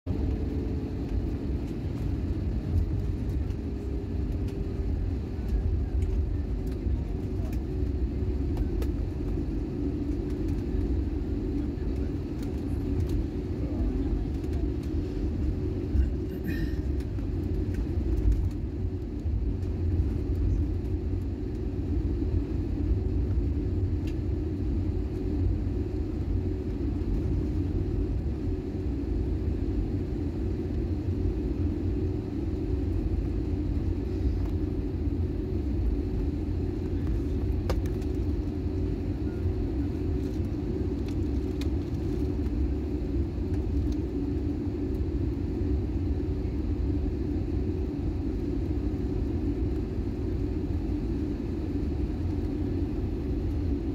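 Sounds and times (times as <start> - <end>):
jet airliner cabin rumble: 0.1 - 53.9.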